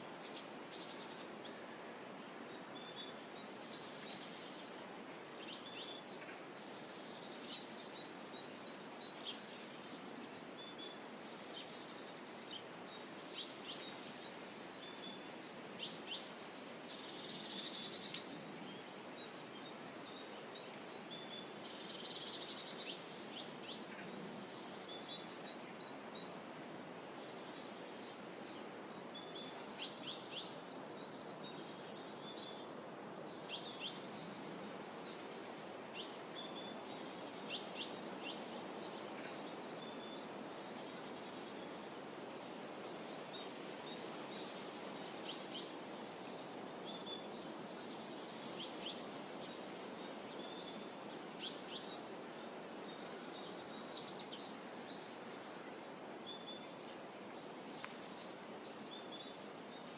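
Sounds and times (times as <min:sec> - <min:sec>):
soft outdoor hush: 0:00.0 - 0:59.9
songbirds singing and chirping: 0:00.0 - 0:59.9.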